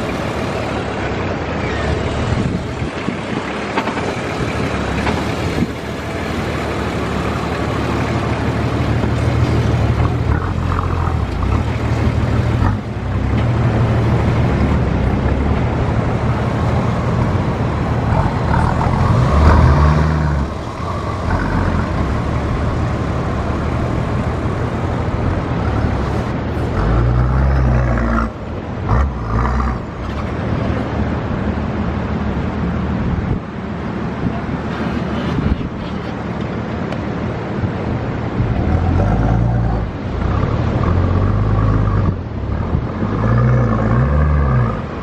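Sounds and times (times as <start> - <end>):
off-road vehicle engine revving: 0.0 - 31.4, 38.2 - 45.0.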